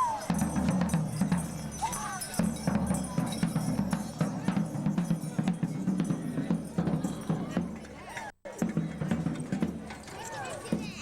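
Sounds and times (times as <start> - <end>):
jingling percussion: 0.0 - 11.0
music with drums: 0.0 - 11.0.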